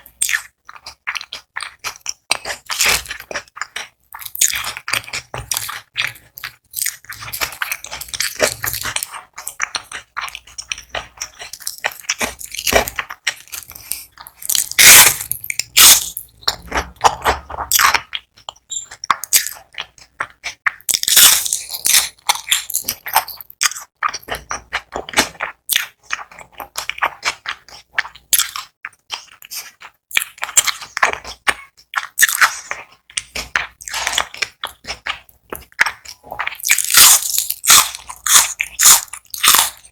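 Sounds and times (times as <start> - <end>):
crunching onion rings: 0.0 - 39.9.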